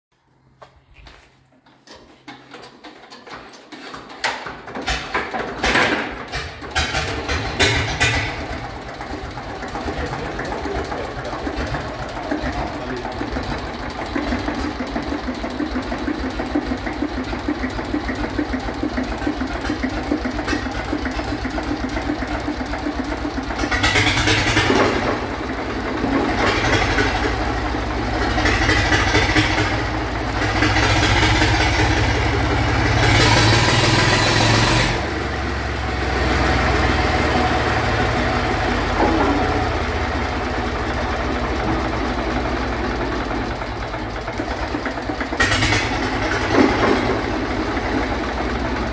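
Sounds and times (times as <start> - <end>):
diesel engine running and revving: 6.4 - 48.9.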